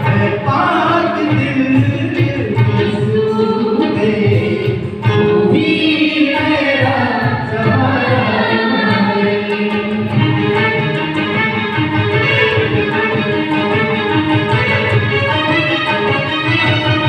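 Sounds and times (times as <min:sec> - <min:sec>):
group singing into microphones: 0:00.0 - 0:15.9.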